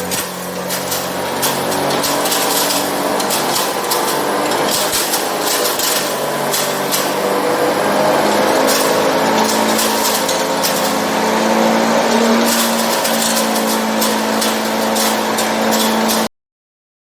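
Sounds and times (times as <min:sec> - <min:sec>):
machine hum: 0:00.0 - 0:16.3
sharp clicks and rattles: 0:00.0 - 0:16.3.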